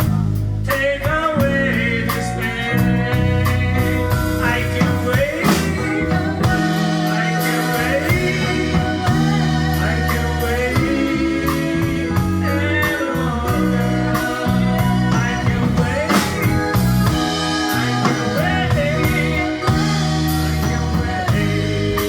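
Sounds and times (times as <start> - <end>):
bass: 0.0 - 22.0
drums: 0.0 - 22.0
electric guitar: 0.0 - 22.0
person singing: 0.0 - 22.0.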